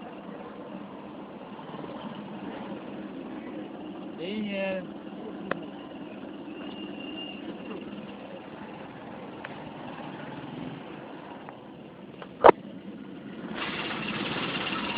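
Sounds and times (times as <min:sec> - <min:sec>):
motorcycle engine running: 0:00.1 - 0:14.9.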